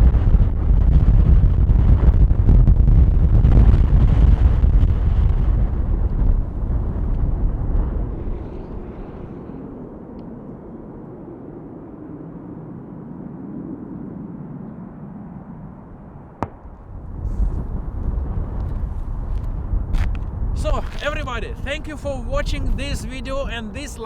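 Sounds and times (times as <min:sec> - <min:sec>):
jet engine roar: 0:00.0 - 0:24.0
low rumble: 0:00.0 - 0:24.0.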